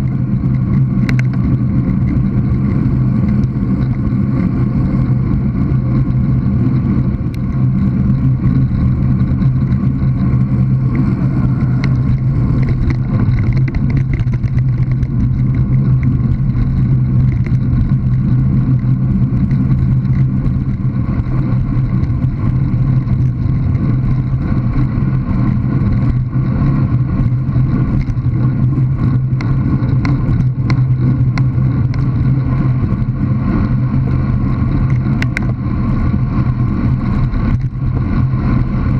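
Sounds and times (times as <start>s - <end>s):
bicycle tyre noise on tarmac: 0.0s - 38.9s
wind rumble: 0.0s - 38.9s.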